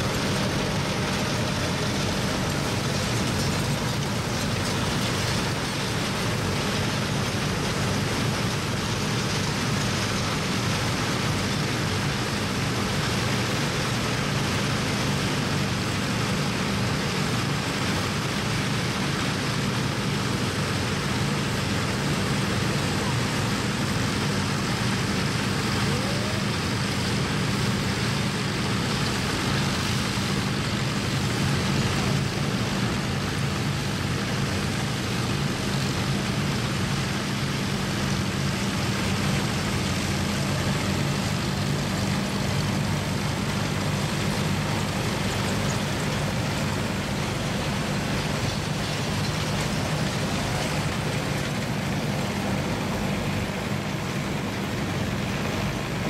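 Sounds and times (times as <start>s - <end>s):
combine engine hum: 0.0s - 56.0s.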